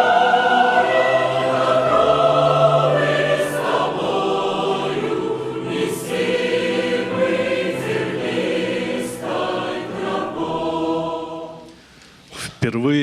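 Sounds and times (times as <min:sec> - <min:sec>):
choir singing a hymn: 0:00.0 - 0:11.8.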